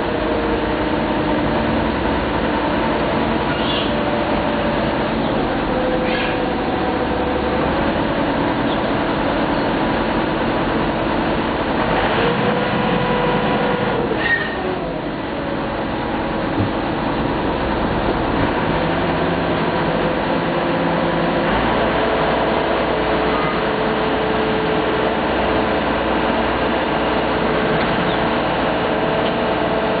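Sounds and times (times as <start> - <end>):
ferry engine hum: 0.0 - 30.0.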